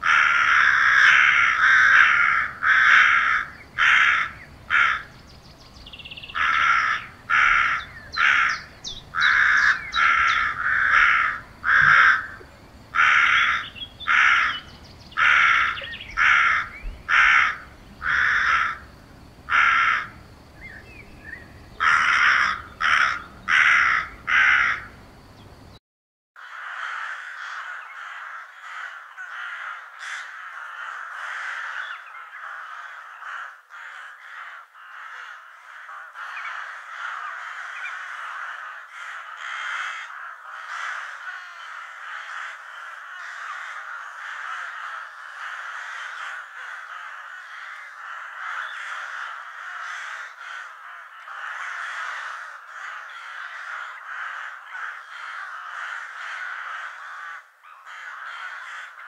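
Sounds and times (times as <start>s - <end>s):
crows cawing: 0.0s - 5.2s, 6.0s - 20.8s, 21.7s - 25.0s, 26.4s - 59.0s.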